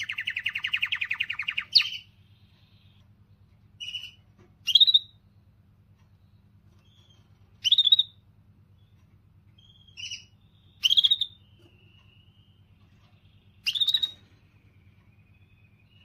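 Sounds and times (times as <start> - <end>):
canary trilling: 0.0 - 16.0.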